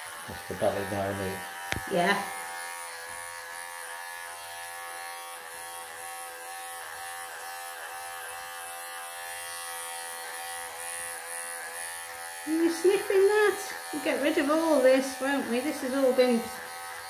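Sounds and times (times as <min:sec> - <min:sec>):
electric pet clippers buzzing: 0:00.0 - 0:17.0.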